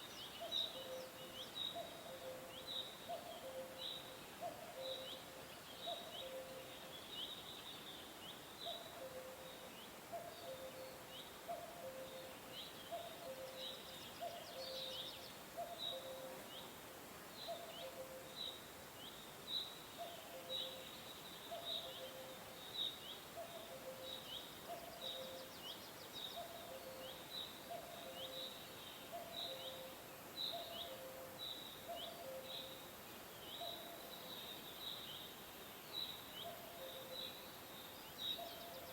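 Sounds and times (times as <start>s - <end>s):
soft steady hiss: 0.0s - 38.9s.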